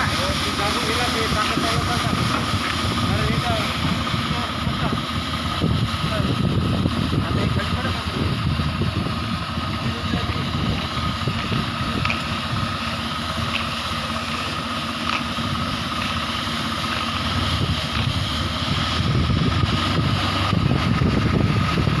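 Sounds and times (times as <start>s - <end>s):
thin steady whine: 0.0s - 22.0s
tractor engine running: 0.0s - 22.0s.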